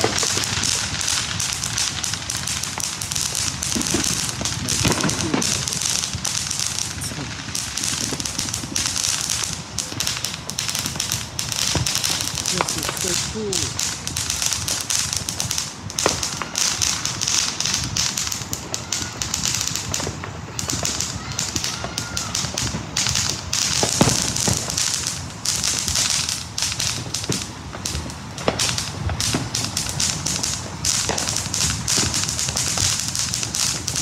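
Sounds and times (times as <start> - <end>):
fireworks crackling: 0.0 - 34.0
loud firework bangs: 0.0 - 34.0.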